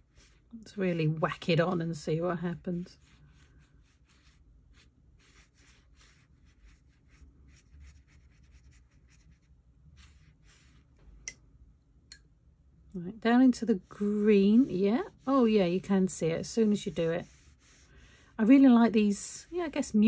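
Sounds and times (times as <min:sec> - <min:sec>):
paintbrush strokes on paper: 0:00.0 - 0:11.1, 0:13.4 - 0:20.0.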